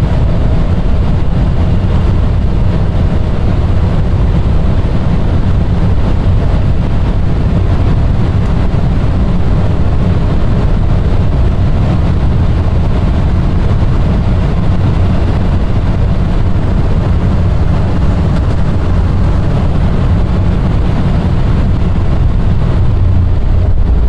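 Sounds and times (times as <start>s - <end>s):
car engine at high revs: 0.0s - 24.0s
wind and road noise: 0.0s - 24.0s.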